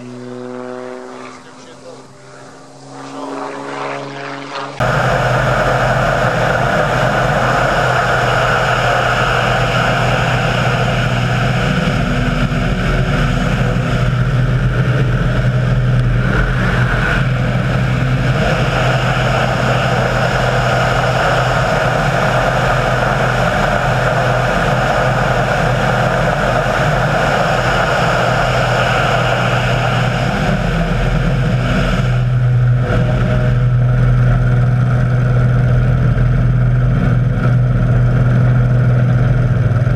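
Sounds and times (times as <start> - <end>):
model aircraft engine buzzing: 0.0 - 39.9.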